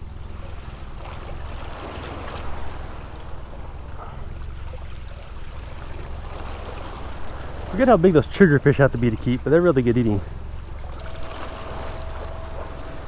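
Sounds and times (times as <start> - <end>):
low rumble: 0.0 - 13.0
water washing against hull: 0.0 - 13.0.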